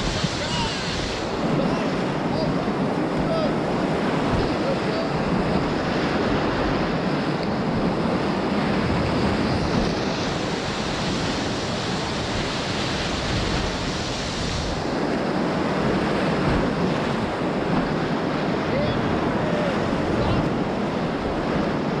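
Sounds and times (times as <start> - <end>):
rapids roaring: 0.0 - 22.0.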